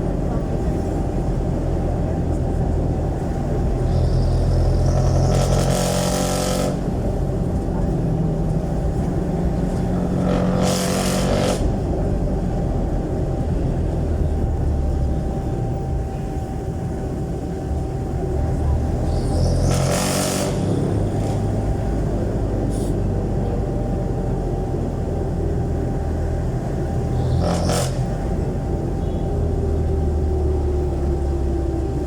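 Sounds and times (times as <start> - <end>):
diesel engine with loud exhaust: 0.0 - 32.0.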